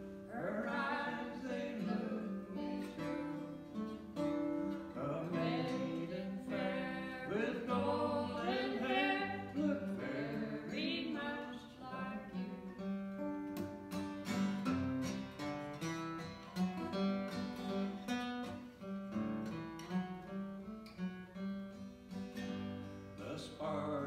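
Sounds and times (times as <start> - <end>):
acoustic guitar picking melody: 0.0 - 24.0.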